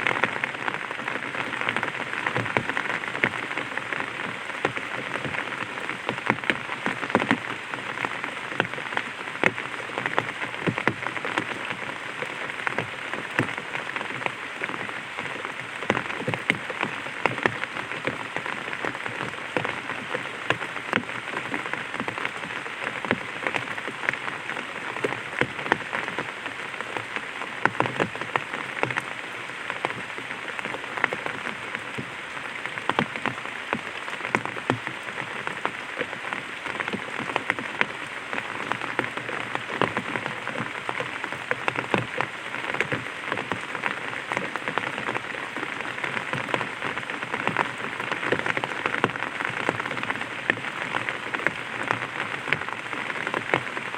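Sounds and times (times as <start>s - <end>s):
raindrops tapping on umbrella: 0.0s - 53.9s.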